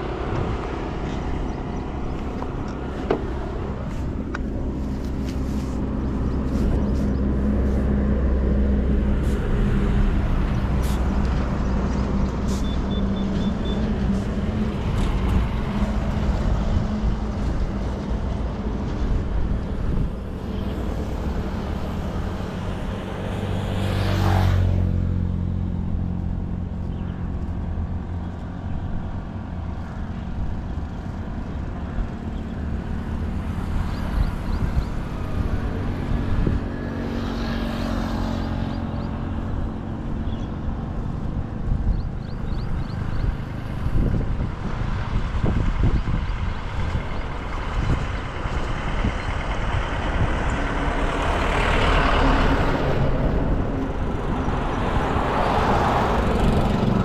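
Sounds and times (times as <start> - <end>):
vehicle passing by: 0.0 - 57.0
wind and road noise: 0.0 - 57.0.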